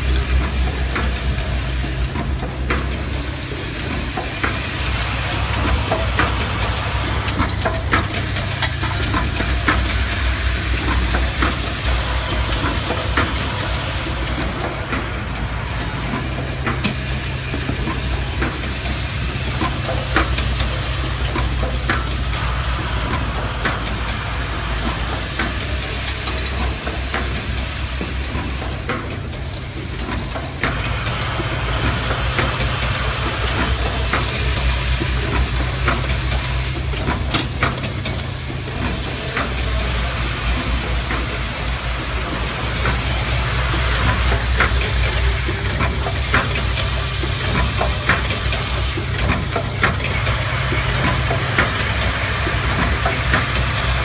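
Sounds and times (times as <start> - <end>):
assembly machine humming: 0.0 - 54.0
constant hiss: 0.0 - 54.0.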